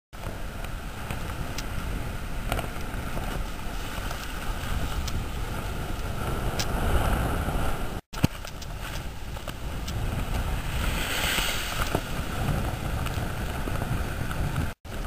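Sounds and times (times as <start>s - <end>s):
surf washing: 0.2s - 15.0s
wind blowing on microphone: 0.2s - 15.0s.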